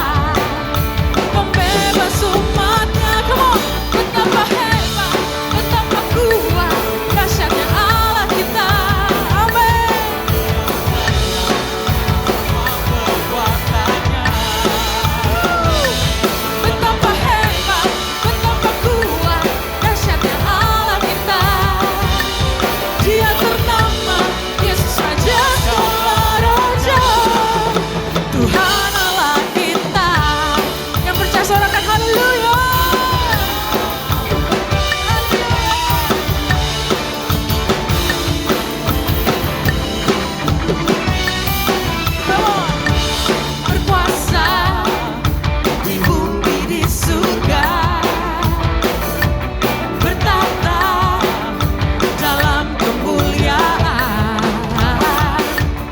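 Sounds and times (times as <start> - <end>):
drum kit playing: 0.0 - 55.9
pop-rock song with singer: 0.0 - 55.9.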